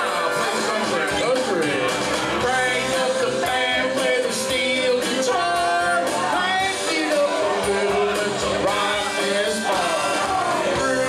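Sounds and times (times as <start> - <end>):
backing track: 0.0 - 11.0
man singing karaoke: 0.0 - 11.0.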